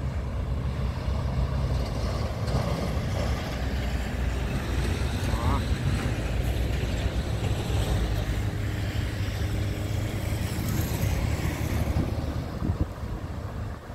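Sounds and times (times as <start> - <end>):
car passing close by: 0.0 - 13.9
freight train rolling: 0.0 - 13.9
road traffic: 0.0 - 13.9
wind buffeting microphone: 0.0 - 13.9.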